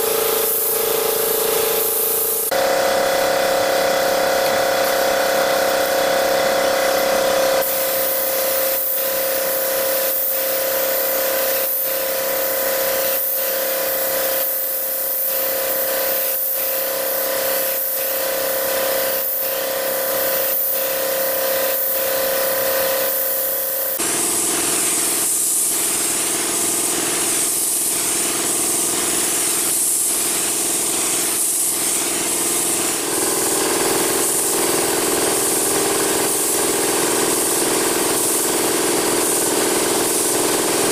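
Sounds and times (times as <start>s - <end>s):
air compressor humming: 0.0s - 40.9s
spray gun hissing: 0.0s - 40.9s.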